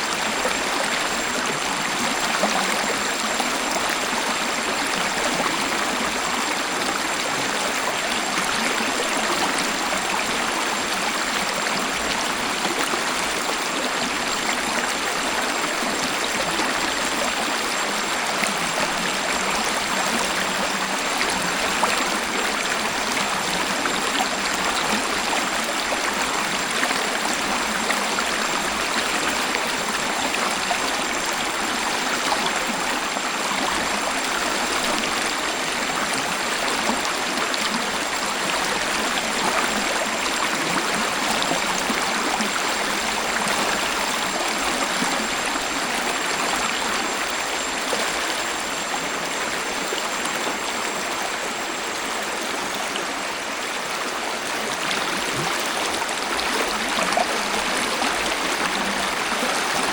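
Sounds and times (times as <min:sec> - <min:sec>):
waterfall rushing and splashing: 0:00.0 - 0:59.9.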